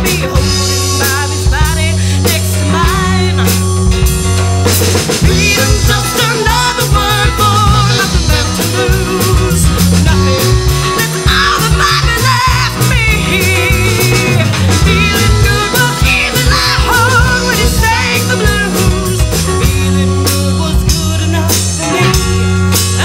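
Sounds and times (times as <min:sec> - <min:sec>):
person singing: 0:00.0 - 0:04.1, 0:05.2 - 0:23.0
folk-rock band playing: 0:00.0 - 0:23.0.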